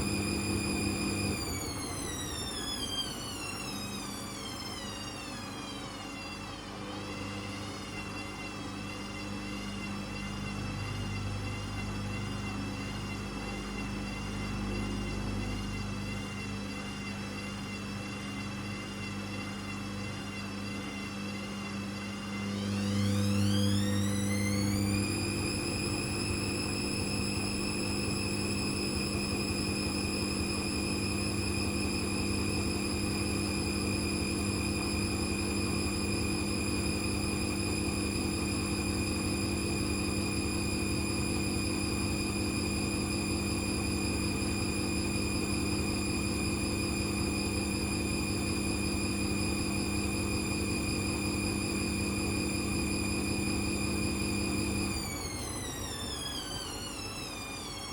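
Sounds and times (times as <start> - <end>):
high motor whine: 0.0 - 57.9
washing machine motor hum: 0.0 - 57.9.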